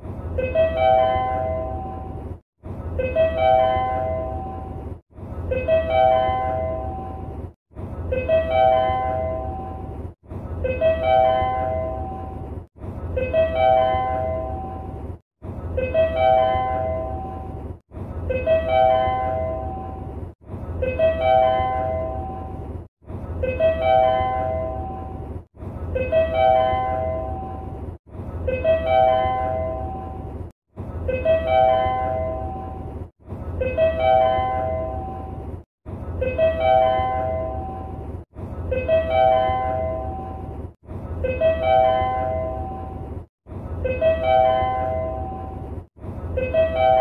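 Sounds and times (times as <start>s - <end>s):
low background rumble: 0.0s - 47.0s.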